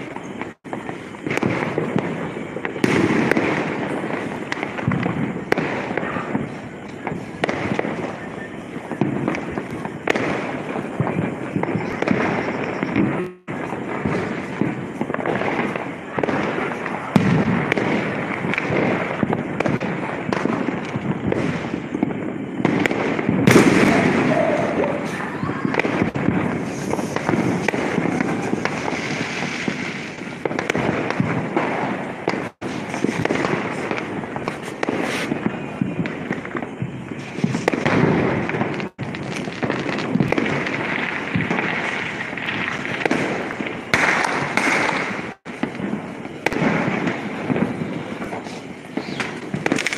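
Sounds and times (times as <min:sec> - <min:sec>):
fireworks and firecrackers: 0:00.0 - 0:49.9.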